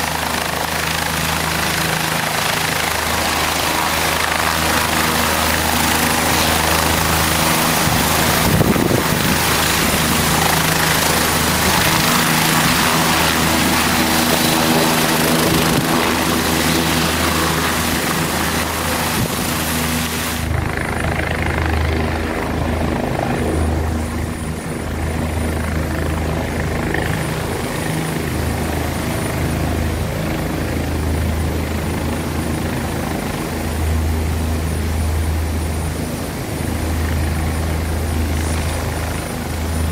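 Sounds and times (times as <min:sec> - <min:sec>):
helicopter rotor throb: 0:00.0 - 0:39.9.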